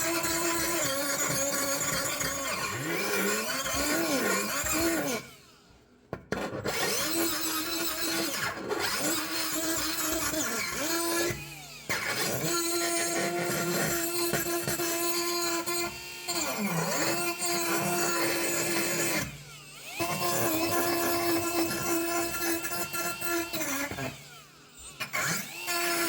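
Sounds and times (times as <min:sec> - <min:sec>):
rotary tool grinding metal: 0:00.0 - 0:05.3, 0:06.7 - 0:26.0.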